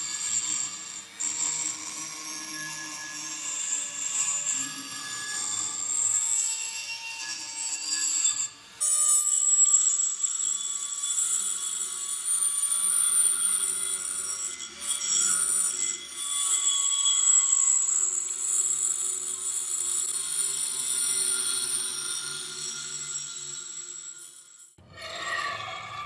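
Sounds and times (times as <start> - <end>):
rotary tool grinding steel: 0.0 - 26.0.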